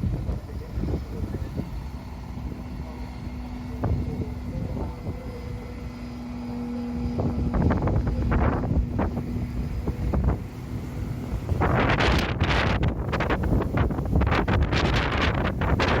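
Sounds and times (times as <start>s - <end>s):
truck engine humming: 0.0s - 16.0s
wind buffeting microphone: 0.0s - 16.0s.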